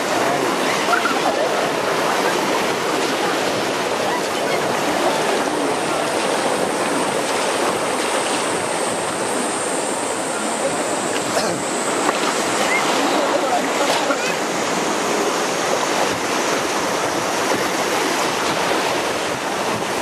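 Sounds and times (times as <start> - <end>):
rapids rushing: 0.0 - 20.0.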